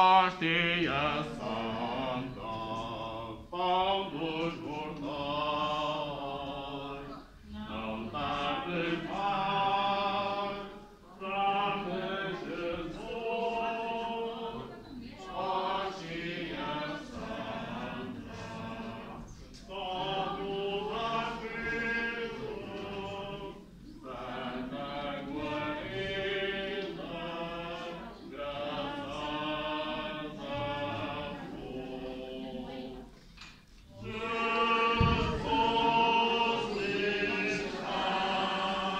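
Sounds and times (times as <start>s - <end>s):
group singing a hymn: 0.0s - 38.9s.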